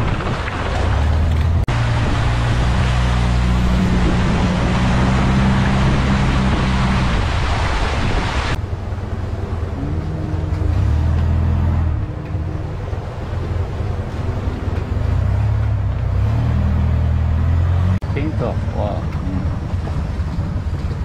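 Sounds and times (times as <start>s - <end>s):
boat engine running: 0.0s - 21.0s
water spray and wind rushing: 0.0s - 21.0s.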